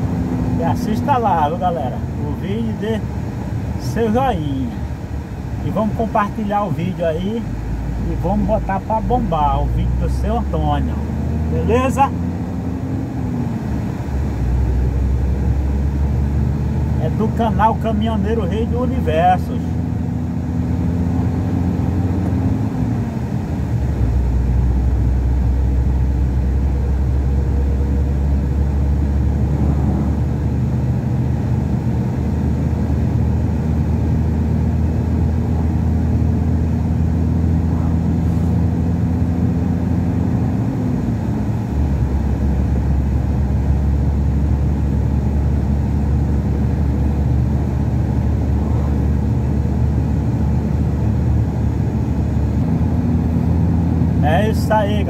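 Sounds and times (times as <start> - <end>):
road noise: 0.0 - 55.0
truck diesel engine: 0.0 - 55.0.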